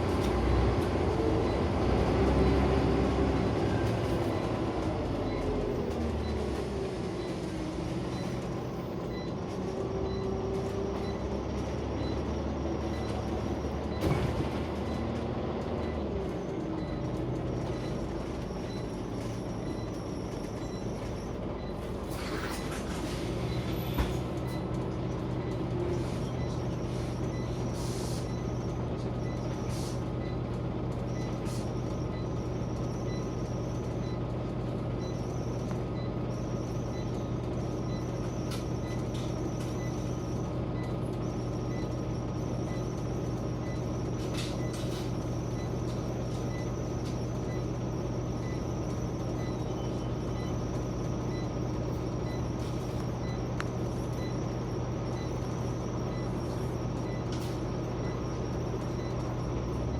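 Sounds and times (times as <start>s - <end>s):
bus engine droning: 0.0s - 59.9s.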